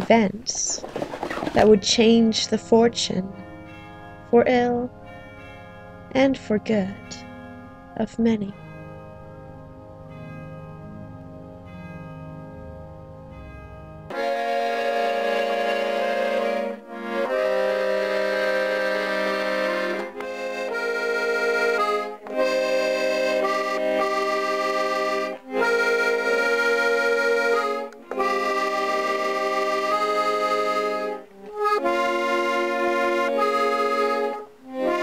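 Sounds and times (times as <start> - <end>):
reedy chords background music: 1.5 - 35.0.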